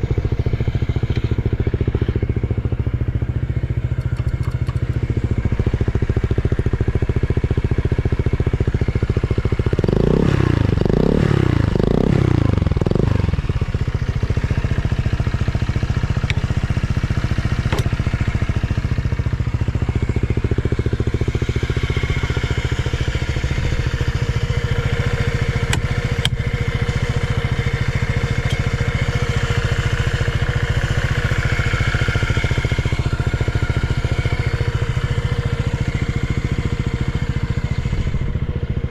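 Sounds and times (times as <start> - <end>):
scooter engine idling and revving: 0.0 - 38.9.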